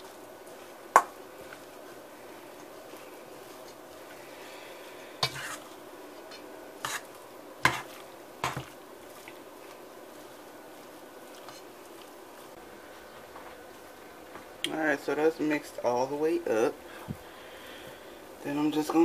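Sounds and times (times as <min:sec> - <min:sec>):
spoon stirring meat mixture: 0:00.0 - 0:19.0.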